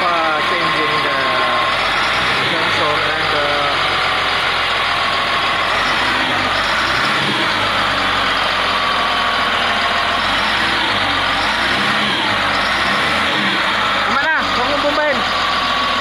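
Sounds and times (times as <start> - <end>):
wheel loader diesel engine running: 0.0 - 16.0.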